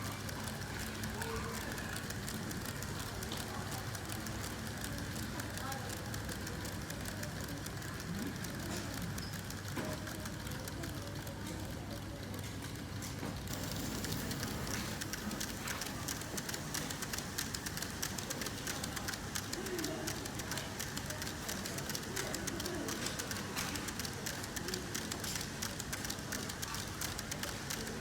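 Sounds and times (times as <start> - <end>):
model train running: 0.0 - 28.0
wheels clicking on track: 0.0 - 28.0.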